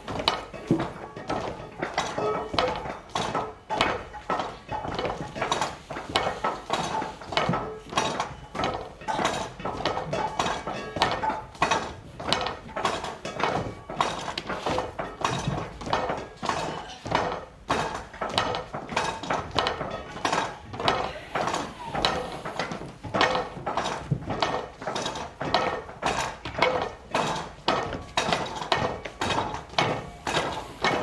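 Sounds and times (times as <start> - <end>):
objects knocking and clinking: 0.0 - 31.0.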